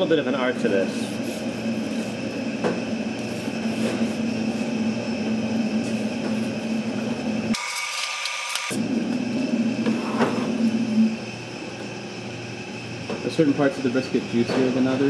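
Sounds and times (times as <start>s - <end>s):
kitchen equipment hum: 0.0s - 15.0s.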